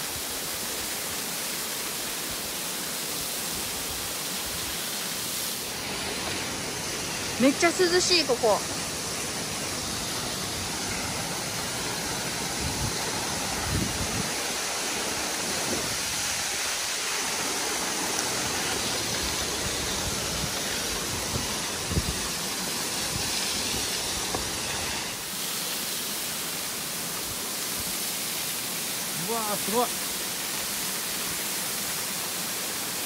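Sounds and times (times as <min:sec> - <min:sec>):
waterfall rushing onto rocks: 0:00.0 - 0:33.0.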